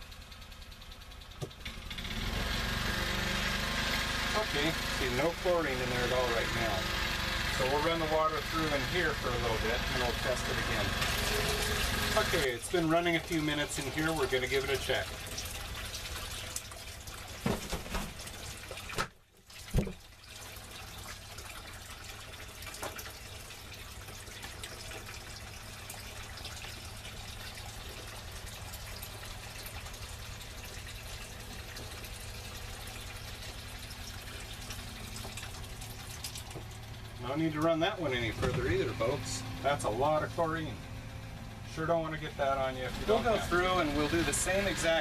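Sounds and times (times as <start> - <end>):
faucet running into sink: 2.0 - 40.2.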